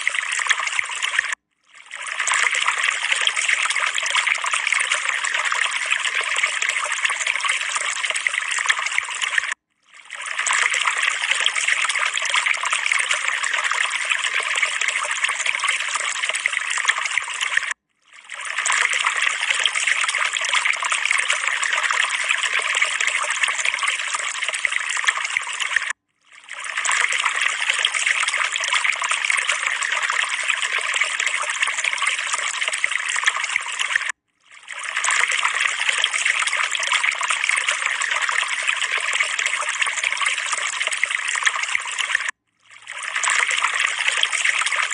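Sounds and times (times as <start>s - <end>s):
water trickling: 0.0s - 44.9s.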